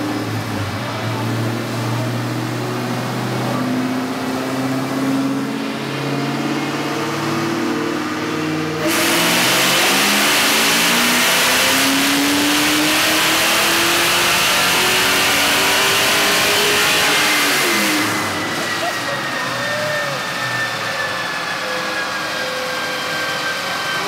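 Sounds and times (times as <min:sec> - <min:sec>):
car engine revving on a dyno: 0:00.0 - 0:24.0.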